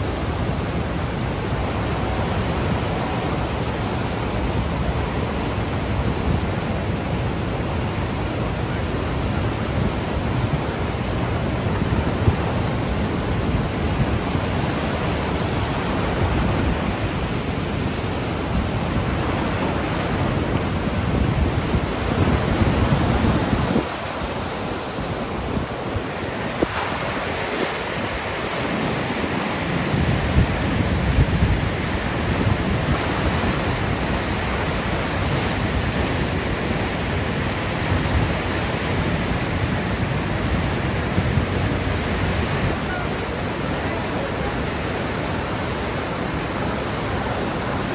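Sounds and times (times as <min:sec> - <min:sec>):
whitewater rapids rushing: 0:00.0 - 0:47.9.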